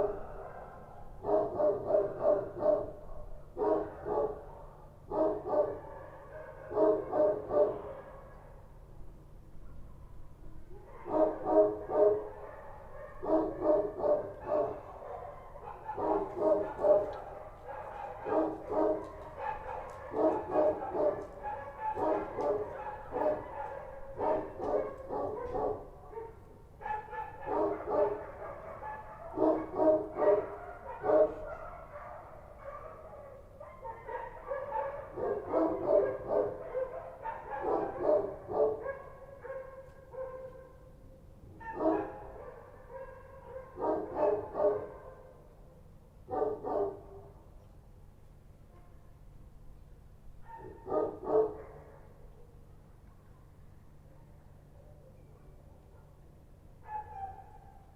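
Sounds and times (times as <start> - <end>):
dogs barking: 0.0 - 8.7, 10.8 - 45.6, 46.2 - 47.4, 50.4 - 52.8, 55.4 - 57.9.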